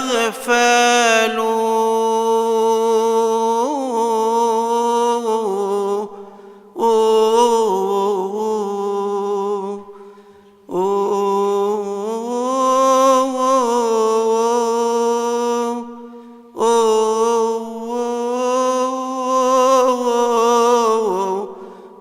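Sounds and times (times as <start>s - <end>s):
man chanting a hymn: 0.0s - 10.0s, 10.7s - 22.0s.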